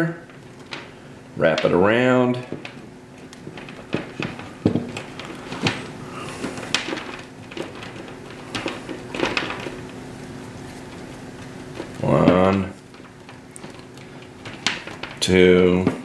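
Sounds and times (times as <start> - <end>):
faint steady hum: 0.0 - 16.0
wire rustling and clicking: 0.0 - 16.0.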